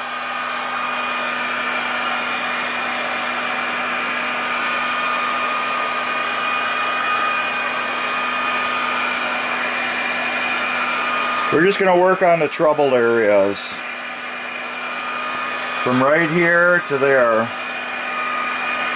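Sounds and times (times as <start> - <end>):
heat gun blowing air: 0.0 - 18.9.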